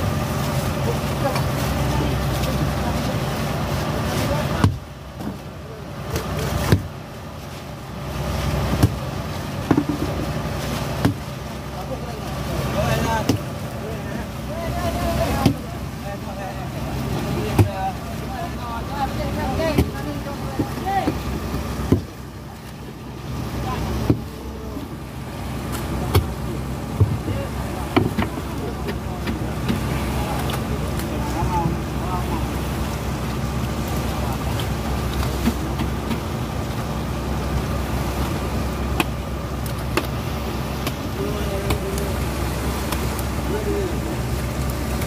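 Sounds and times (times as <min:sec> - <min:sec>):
boat engine running: 0:00.0 - 0:45.0
wake water rushing: 0:00.0 - 0:45.0
wind: 0:00.0 - 0:45.0.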